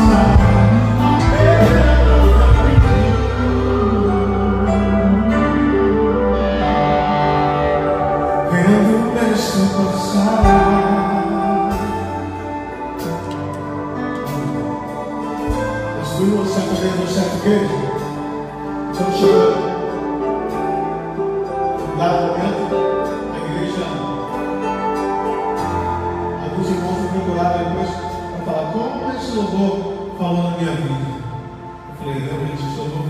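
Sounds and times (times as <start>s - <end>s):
electric guitar: 0.0s - 29.2s
electric bass: 0.0s - 30.2s
held keyboard chords: 0.0s - 33.0s.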